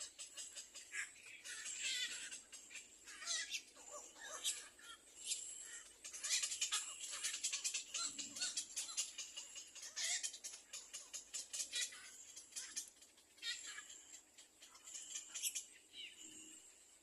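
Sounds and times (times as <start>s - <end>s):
nestling birds chirping: 0.0s - 17.0s.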